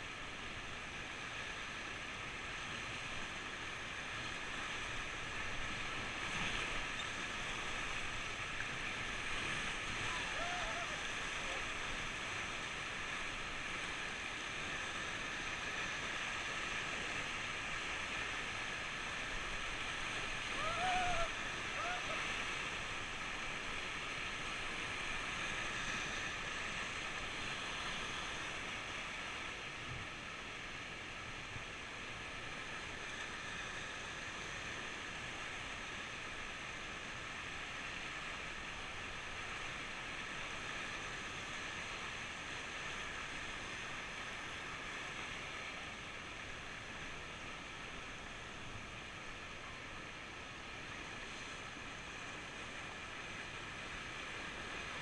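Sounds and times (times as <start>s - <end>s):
river rapid rushing: 0.0s - 55.0s.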